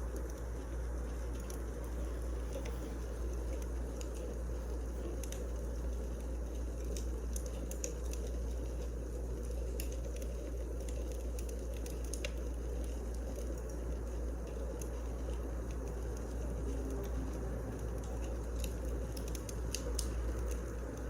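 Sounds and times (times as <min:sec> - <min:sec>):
fire popping and snapping: 0:00.0 - 0:21.0
low fire rumble: 0:00.0 - 0:21.0.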